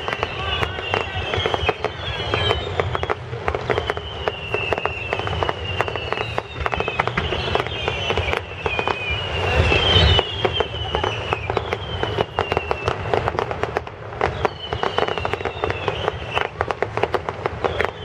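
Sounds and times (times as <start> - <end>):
firework whistles sliding down: 0.0 - 18.0
fireworks crackling bangs: 0.0 - 18.0.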